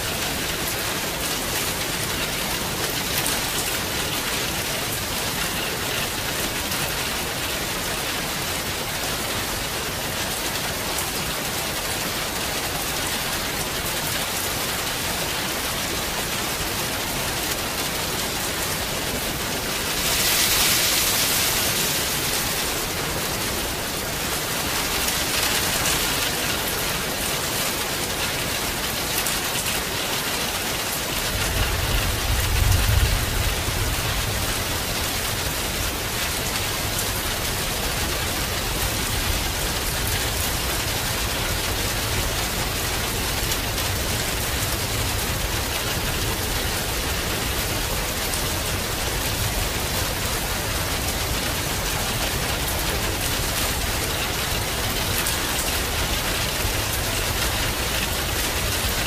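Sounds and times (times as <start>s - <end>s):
steady rain hissing: 0.0s - 59.0s.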